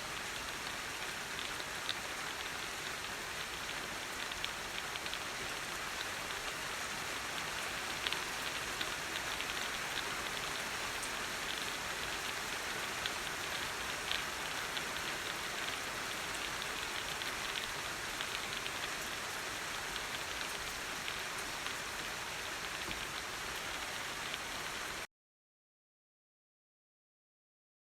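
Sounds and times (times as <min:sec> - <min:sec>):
steady rain on a surface: 0:00.0 - 0:25.1.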